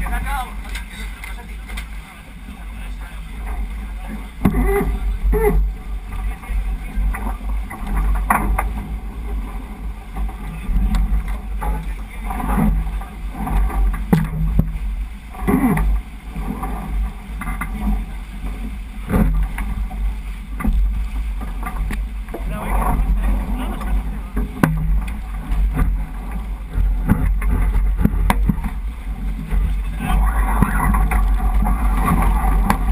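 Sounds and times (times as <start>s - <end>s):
water rushing along hull: 0.0s - 32.9s
wind buffeting microphone: 0.0s - 32.9s.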